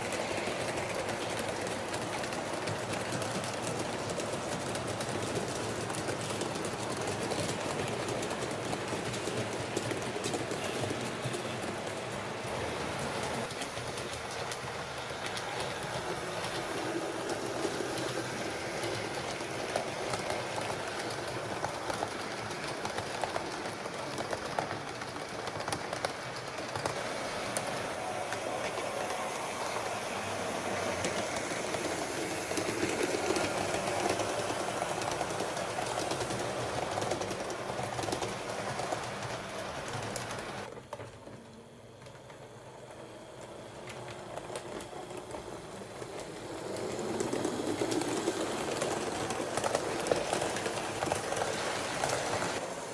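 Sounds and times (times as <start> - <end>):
model train rolling on track: 0.0 - 52.9.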